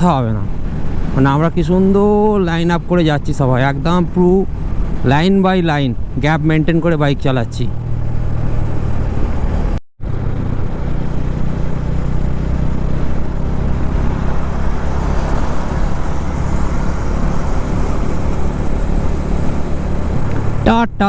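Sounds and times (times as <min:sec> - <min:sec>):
motorcycle engine cruising: 0:00.0 - 0:21.0
road noise: 0:00.0 - 0:21.0.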